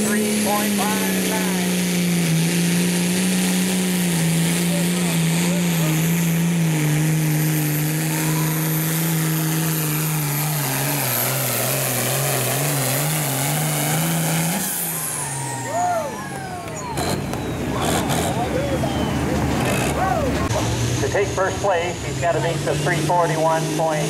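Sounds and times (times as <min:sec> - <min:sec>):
tractor engine at full throttle: 0:00.0 - 0:24.0.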